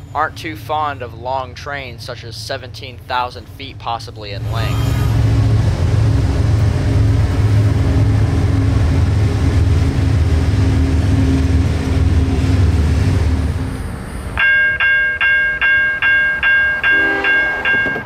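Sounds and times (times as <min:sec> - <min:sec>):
diesel locomotives passing: 0:00.0 - 0:18.0.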